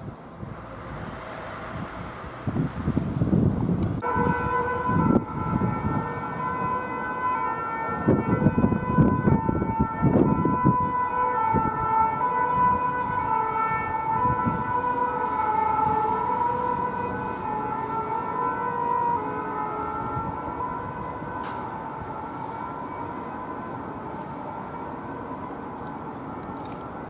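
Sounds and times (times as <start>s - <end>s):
two-tone sirens: 0.4s - 27.0s.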